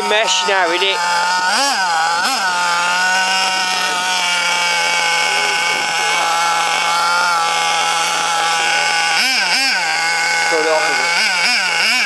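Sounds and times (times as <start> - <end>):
small nitro engine buzzing: 0.0 - 12.0.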